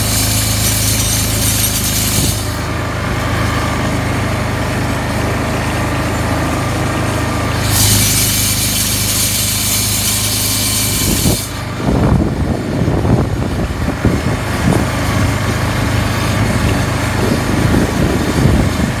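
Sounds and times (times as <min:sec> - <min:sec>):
harrow scraping over dirt: 0:00.0 - 0:19.0
quad bike engine running: 0:00.0 - 0:19.0.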